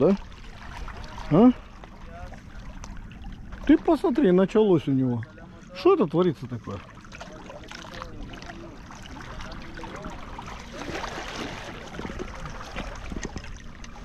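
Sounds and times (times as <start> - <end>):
sea water sloshing against rocks: 0.0 - 14.0.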